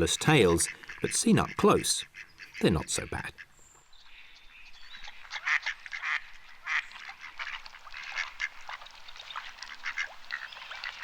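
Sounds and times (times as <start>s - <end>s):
birds calling: 0.0s - 7.1s, 8.0s - 11.0s.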